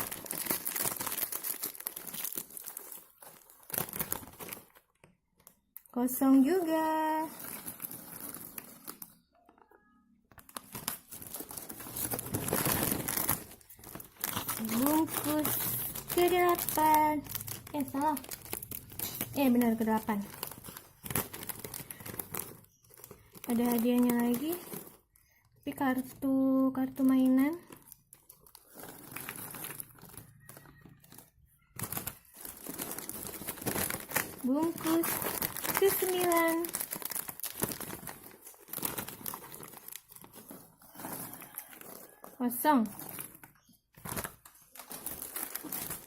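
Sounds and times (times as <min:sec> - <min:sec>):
plastic snack packet crinkling: 0:00.0 - 0:46.0.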